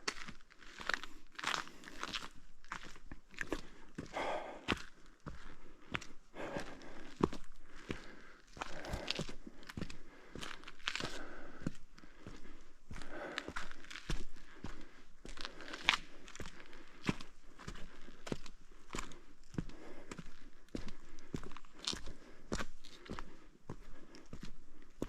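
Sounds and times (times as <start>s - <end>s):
footsteps on trail: 0.0s - 25.0s.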